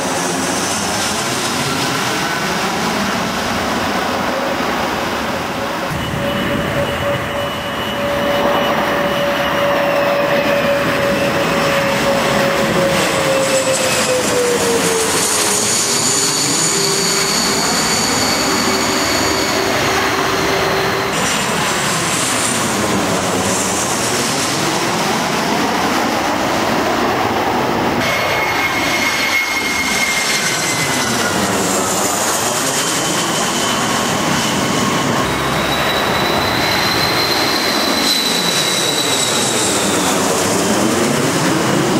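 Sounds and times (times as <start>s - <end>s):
jet airliners passing overhead: 0.0s - 41.9s
jet engine whine: 0.0s - 41.9s.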